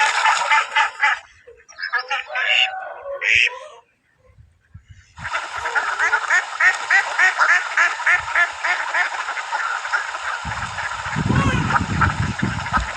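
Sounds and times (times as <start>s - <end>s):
ducks quacking: 0.0s - 3.8s, 4.6s - 12.9s.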